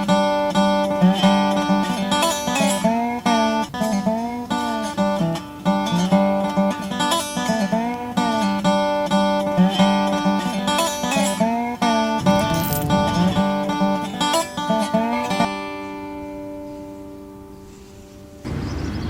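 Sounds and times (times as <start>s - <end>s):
resonator slide guitar: 0.0s - 16.5s.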